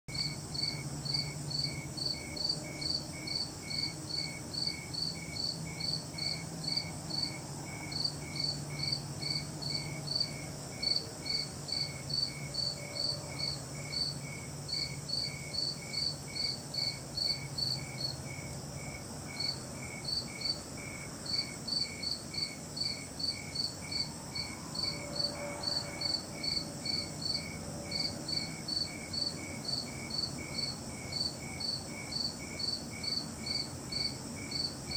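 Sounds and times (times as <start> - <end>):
crickets chirping: 0.1 - 34.9
high insect drone: 0.1 - 34.9.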